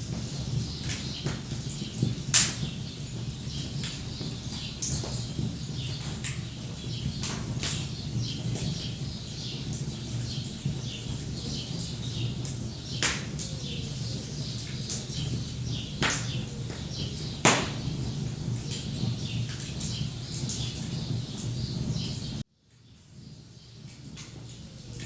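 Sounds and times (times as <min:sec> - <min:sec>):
wood fire crackling and popping: 0:00.0 - 0:22.5
small birds chirping: 0:00.1 - 0:22.4.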